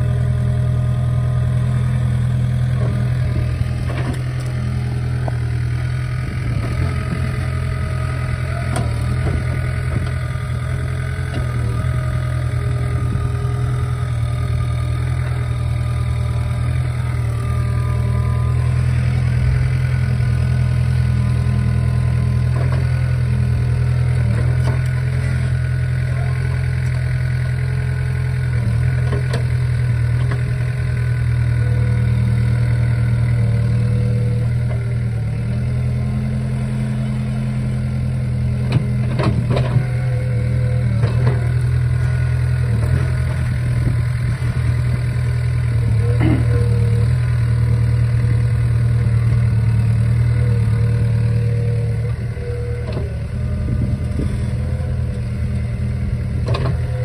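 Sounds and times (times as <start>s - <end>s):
diesel excavator engine running: 0.0s - 57.0s.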